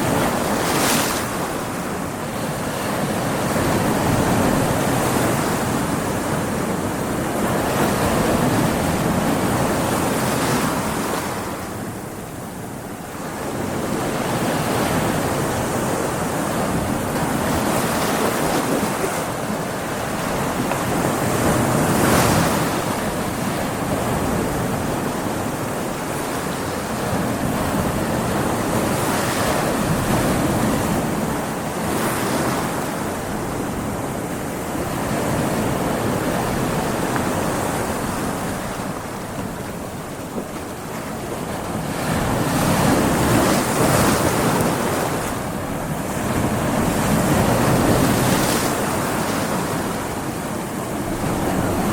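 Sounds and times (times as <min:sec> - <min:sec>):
ocean waves breaking on rocks: 0:00.0 - 0:51.9.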